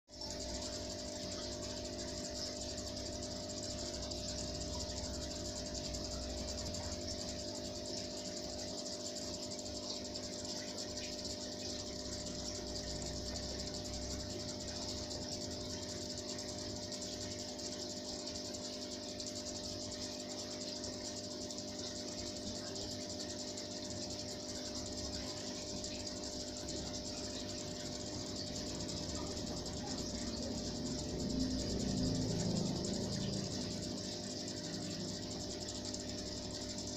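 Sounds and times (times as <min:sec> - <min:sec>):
aquarium pump hum: 0:00.1 - 0:36.9.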